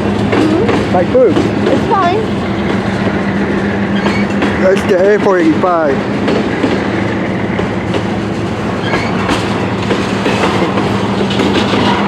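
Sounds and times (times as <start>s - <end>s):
diesel locomotives humming: 0.0s - 12.0s
train wheels clacking over rail joints: 0.0s - 12.0s.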